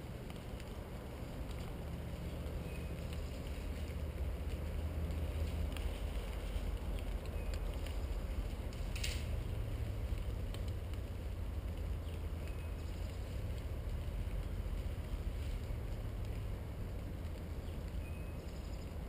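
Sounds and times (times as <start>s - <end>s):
faint ticks: 0.0s - 19.0s
wind rumble on camera: 0.0s - 19.0s.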